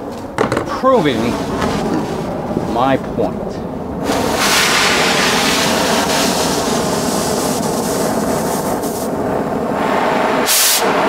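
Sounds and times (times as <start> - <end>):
torch flame hissing: 0.9 - 11.0.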